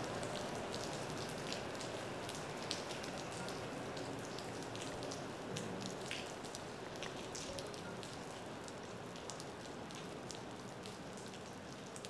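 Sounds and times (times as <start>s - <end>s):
raindrops ticking close by: 0.0s - 12.0s
steady rain: 0.0s - 12.0s.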